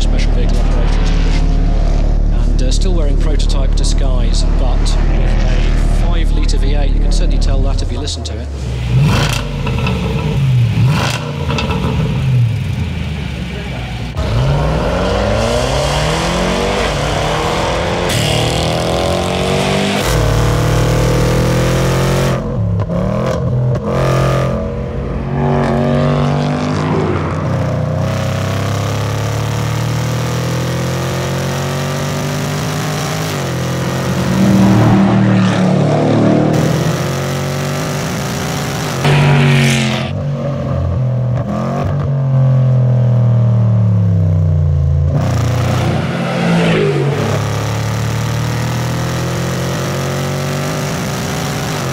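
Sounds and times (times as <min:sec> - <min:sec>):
car engine revving through gears: 0:00.0 - 0:51.9.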